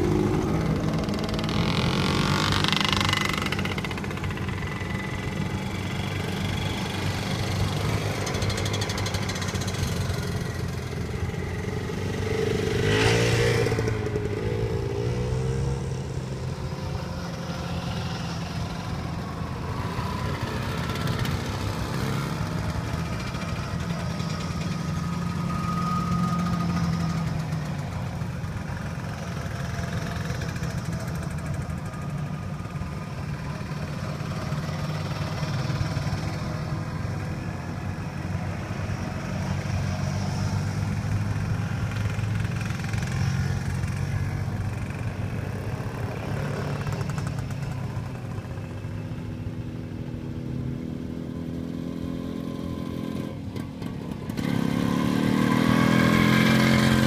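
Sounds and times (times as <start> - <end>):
small cars driving past: 0.0 - 57.0
two-stroke engines buzzing: 0.0 - 57.0.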